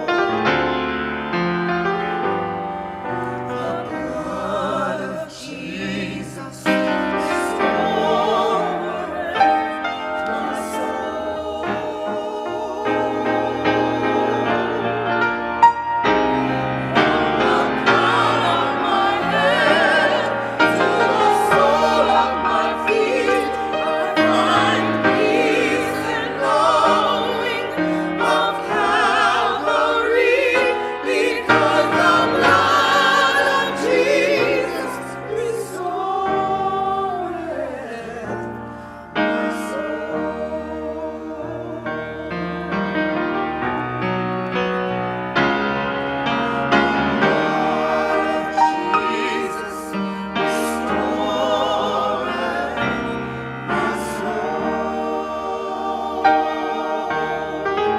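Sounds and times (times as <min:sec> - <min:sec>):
choir singing with vibrato: 0:00.0 - 0:57.9
sustained accompaniment: 0:00.1 - 0:37.8, 0:38.6 - 0:57.9.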